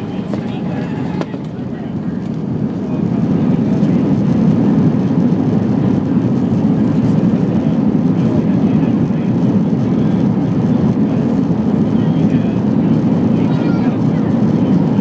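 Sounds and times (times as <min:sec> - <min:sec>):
airliner landing rumble: 0:00.0 - 0:15.0.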